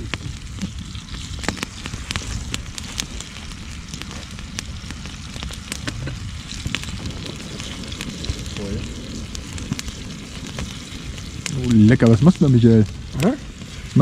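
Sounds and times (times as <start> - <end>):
campfire crackling and popping: 0.0 - 14.0
low rumble: 0.0 - 14.0.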